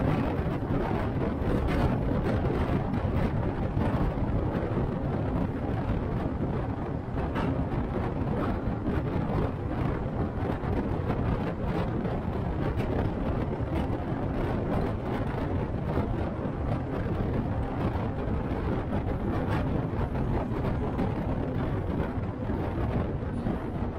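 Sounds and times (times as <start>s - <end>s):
bus engine and road noise: 0.0s - 23.9s.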